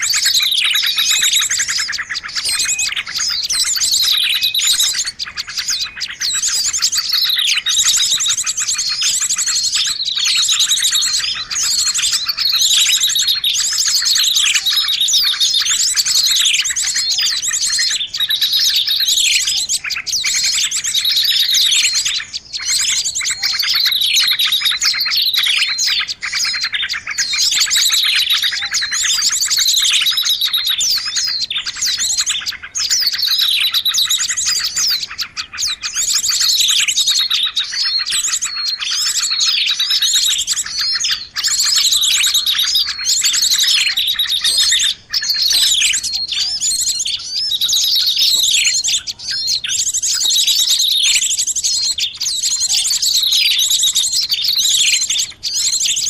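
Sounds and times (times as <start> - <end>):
small birds chirping and twittering: 0.0 - 56.0.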